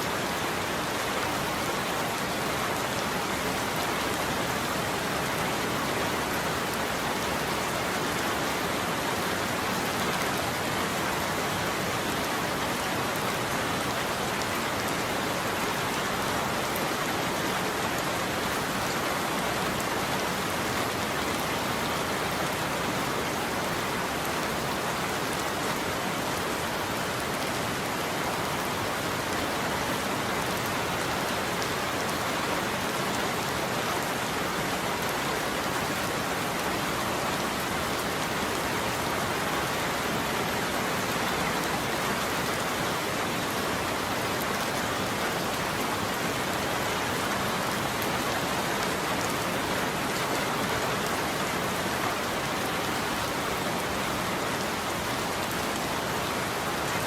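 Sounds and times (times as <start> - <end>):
heavy rain on a roof: 0.0 - 57.0.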